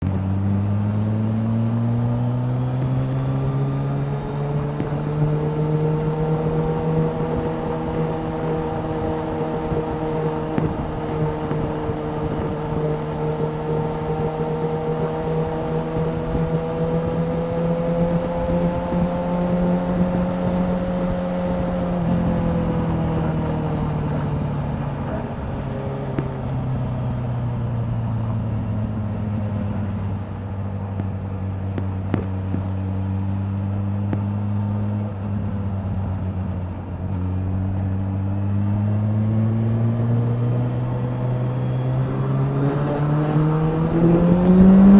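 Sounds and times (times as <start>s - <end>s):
motorcycle engine: 0.0s - 44.9s.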